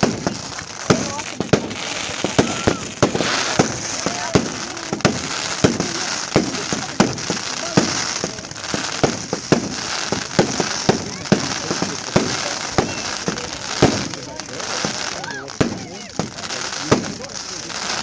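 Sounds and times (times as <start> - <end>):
crackling hiss: 0.0 - 18.0
fireworks bursting with sharp bangs: 0.0 - 18.0.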